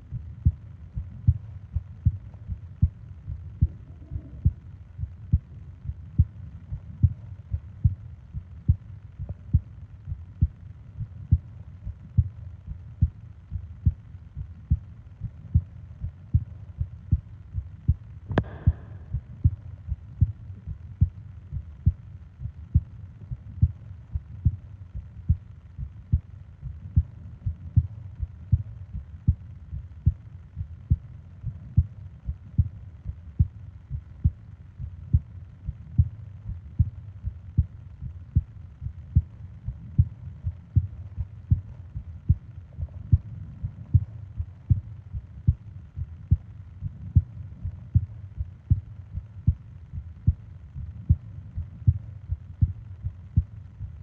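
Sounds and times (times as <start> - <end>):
heartbeat thumps: 0.0 - 54.0.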